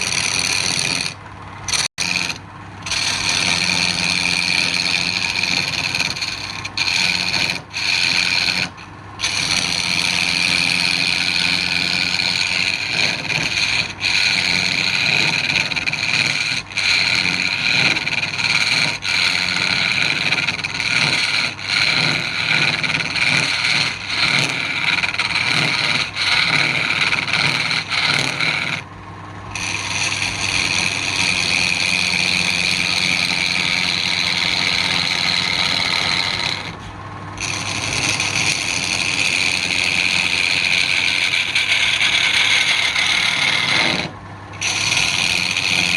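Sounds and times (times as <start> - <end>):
tool scraping spinning wood: 0.0 - 45.9
wood lathe motor hum: 0.0 - 45.9.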